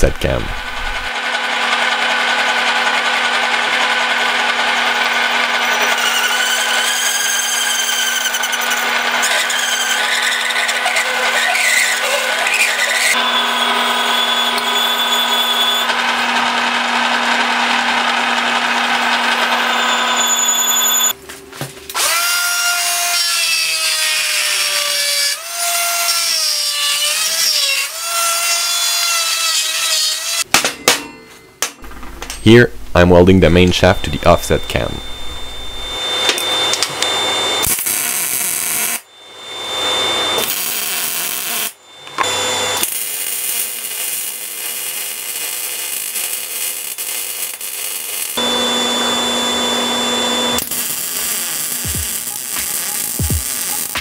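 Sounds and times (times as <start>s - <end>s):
hole saw cutting steel: 0.2s - 21.2s, 21.9s - 32.5s, 33.8s - 54.0s
power tool whining: 0.5s - 21.2s, 21.9s - 28.0s, 34.0s - 54.0s.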